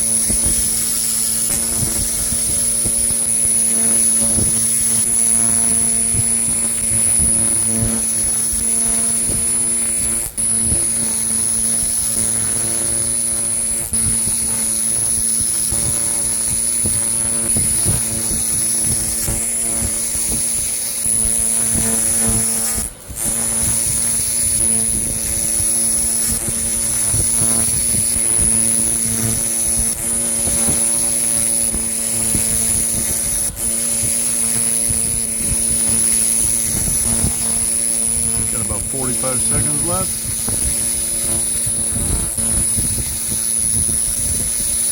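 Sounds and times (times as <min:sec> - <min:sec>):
laser high-pitched whine: 0:00.0 - 0:44.9.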